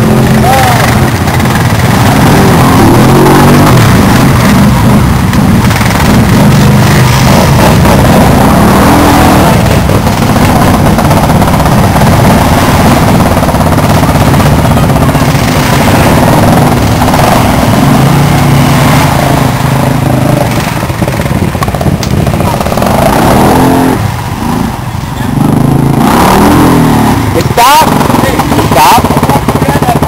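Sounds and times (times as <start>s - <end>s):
atv engines revving: 0.0s - 30.0s
vehicles splashing through muddy water: 0.0s - 30.0s.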